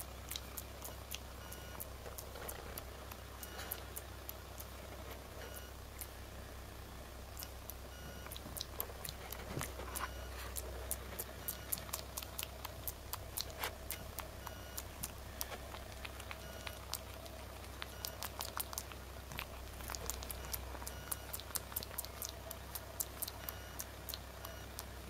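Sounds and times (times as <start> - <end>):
monkey clicks and smacks: 0.0 - 4.7, 7.4 - 25.0.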